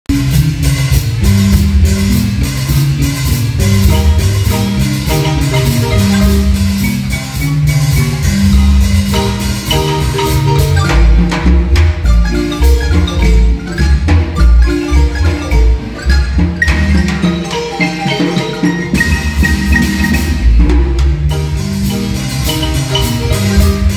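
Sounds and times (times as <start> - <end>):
marimba ensemble playing: 0.1 - 23.9.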